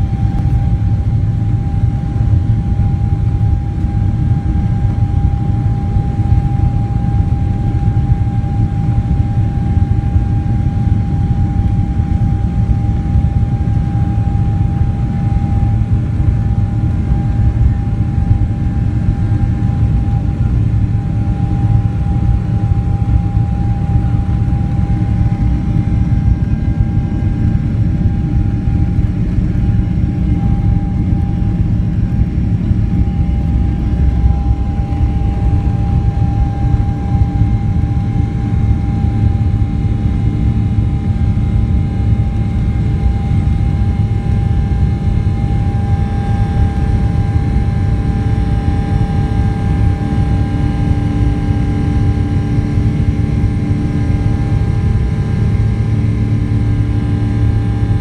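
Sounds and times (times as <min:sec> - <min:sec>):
engine high whine: 0:00.0 - 0:58.0
jet engines deep rumble: 0:00.0 - 0:58.0.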